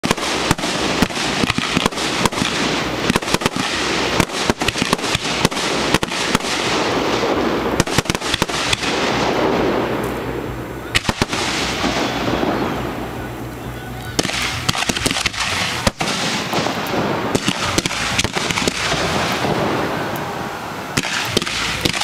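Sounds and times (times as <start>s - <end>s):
continuous noisy rush: 0.0s - 22.0s
fireworks bursting: 0.0s - 22.0s.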